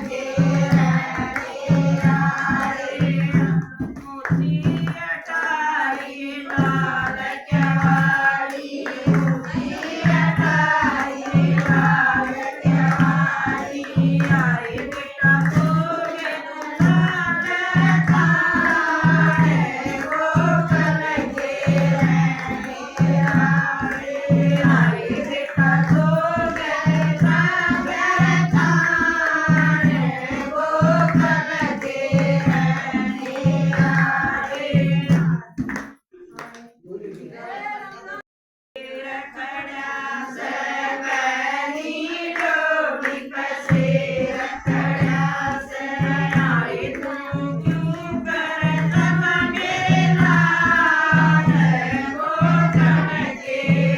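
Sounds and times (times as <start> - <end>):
hand drum beat: 0.0 - 36.0, 43.4 - 53.9
person singing devotional song: 0.0 - 38.2, 38.8 - 53.9.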